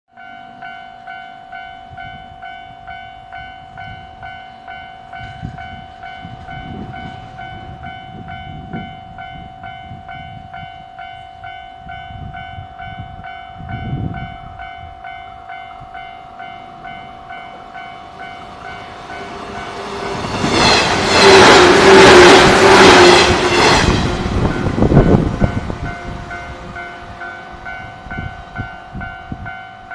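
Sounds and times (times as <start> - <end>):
level crossing alarm ringing: 0.1 - 29.9.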